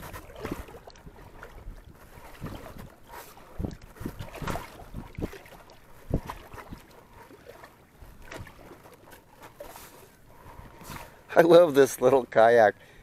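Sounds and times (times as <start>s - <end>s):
paddles splashing in water: 0.0s - 12.1s
water washing along hull: 0.0s - 13.0s.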